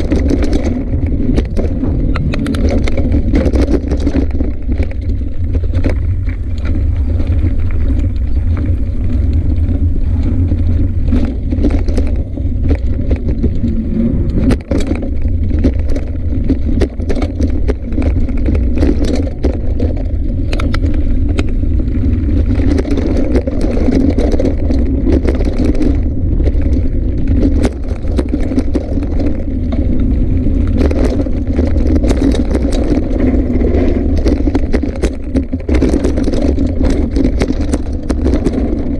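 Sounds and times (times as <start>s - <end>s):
bicycle rattling over bumps: 0.0s - 38.9s
wind and tyre rumble: 0.0s - 38.9s.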